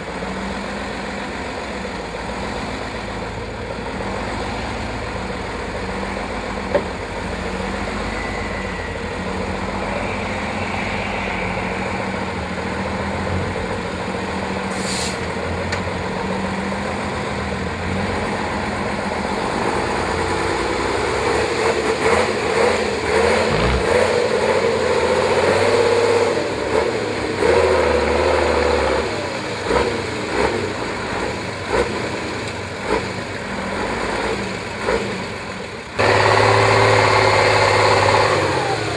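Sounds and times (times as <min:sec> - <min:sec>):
truck diesel engine revving: 0:00.0 - 0:38.9.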